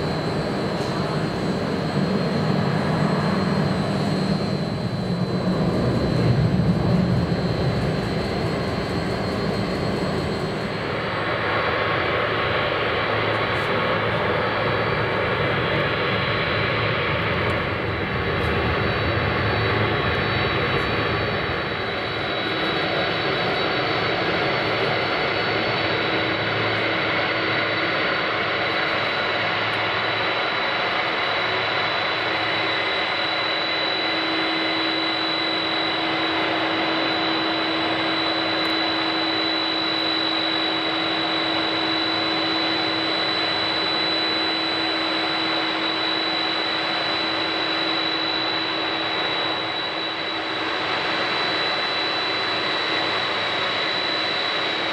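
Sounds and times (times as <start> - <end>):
jet engines rumbling and whining: 0.0 - 54.9.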